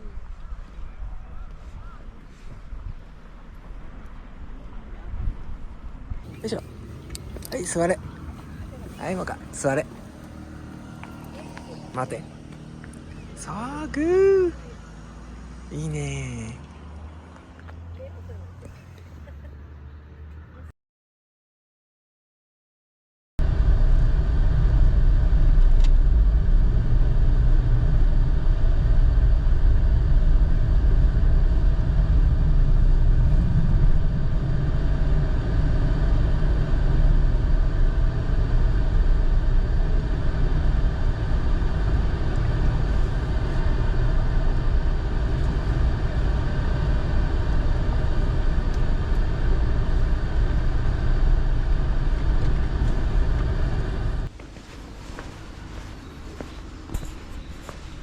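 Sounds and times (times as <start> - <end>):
car engine and tyre noise: 0.0 - 20.7, 23.4 - 58.0.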